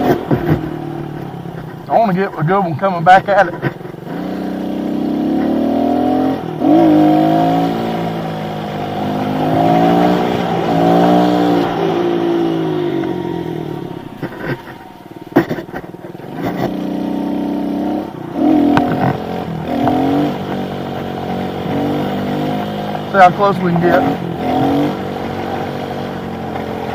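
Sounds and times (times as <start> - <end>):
pit bike engine revving: 0.0 - 26.9.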